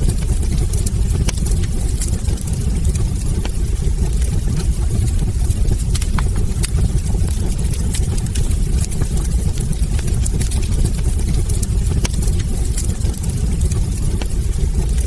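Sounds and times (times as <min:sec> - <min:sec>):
logs crackling and popping: 0:00.0 - 0:15.0
wood fire rumbling: 0:00.0 - 0:15.0.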